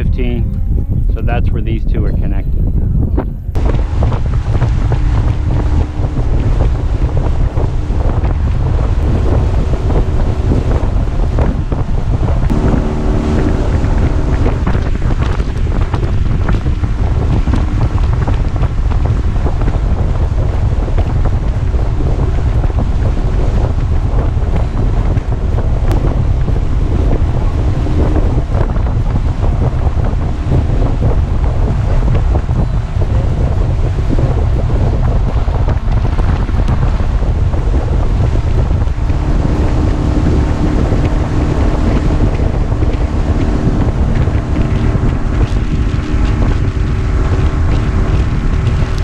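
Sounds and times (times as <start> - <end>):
wind buffeting on microphone: 0.0 - 49.0
faint outboard engine tone: 3.3 - 49.0.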